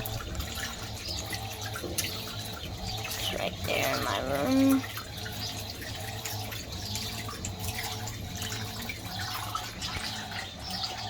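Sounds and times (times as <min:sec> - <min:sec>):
washing machine hum: 0:00.0 - 0:11.0
water splashing in washing machine: 0:00.0 - 0:11.0.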